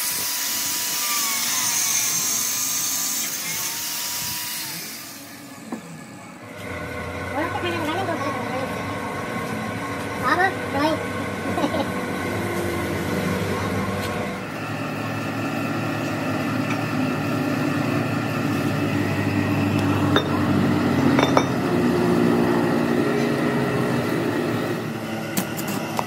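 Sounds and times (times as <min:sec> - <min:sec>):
workshop machinery humming: 0:00.0 - 0:26.0.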